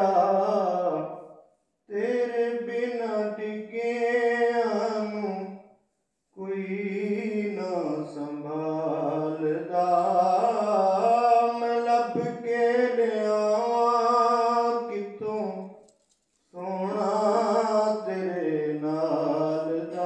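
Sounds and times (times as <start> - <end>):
man chanting unaccompanied: 0.0 - 1.1, 1.9 - 5.5, 6.4 - 15.7, 16.6 - 20.0.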